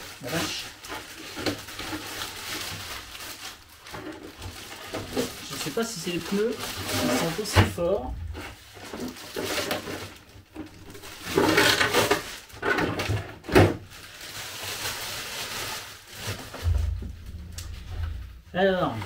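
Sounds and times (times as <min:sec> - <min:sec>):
packaging rustling: 0:00.0 - 0:18.4.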